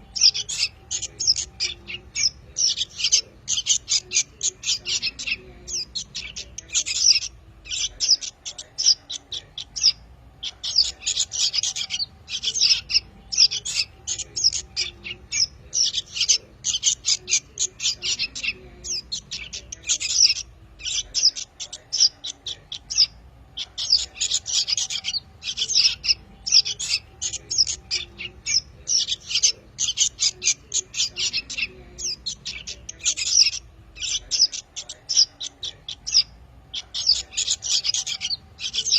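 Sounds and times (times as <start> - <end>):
fledgling songbirds chirping: 0.0 - 38.9.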